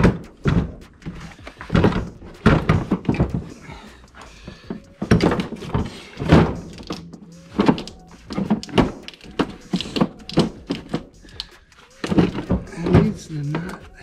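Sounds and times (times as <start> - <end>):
engine parts knocking and clunking: 0.0 - 14.0.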